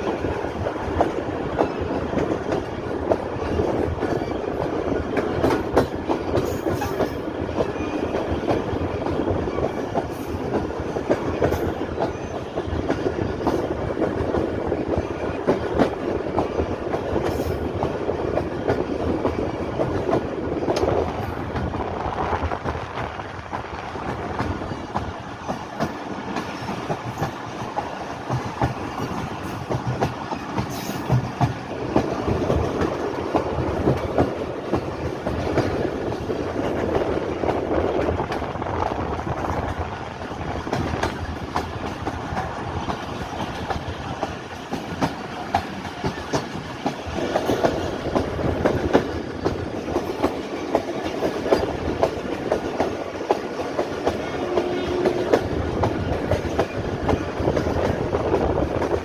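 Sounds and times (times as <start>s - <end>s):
rumble of rolling coaches: 0.0s - 59.0s
train wheels clacking on rail joints: 0.0s - 59.0s.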